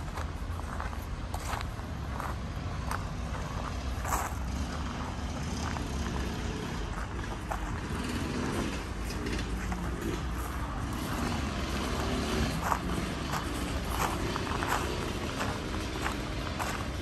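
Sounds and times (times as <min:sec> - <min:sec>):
steady low street rumble: 0:00.0 - 0:17.0.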